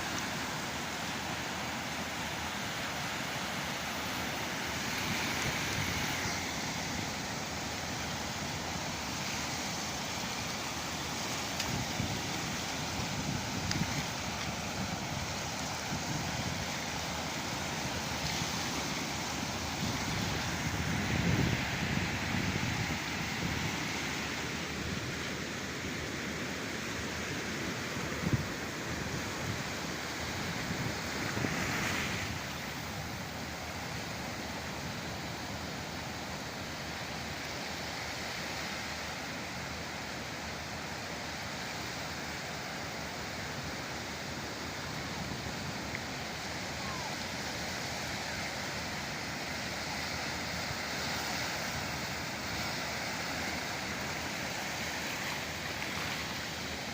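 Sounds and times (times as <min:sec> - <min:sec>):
waves breaking: 0:00.0 - 0:56.9.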